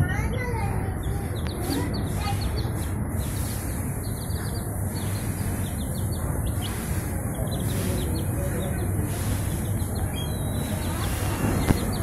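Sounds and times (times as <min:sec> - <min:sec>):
baby chicks peeping: 0:00.0 - 0:12.0
steady low rumble: 0:00.0 - 0:12.0.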